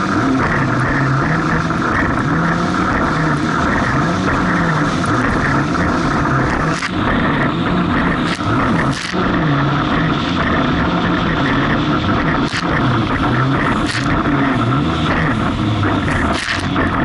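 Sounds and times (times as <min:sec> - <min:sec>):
jet ski engine running: 0:00.0 - 0:17.0
rush of wind and water: 0:00.0 - 0:17.0.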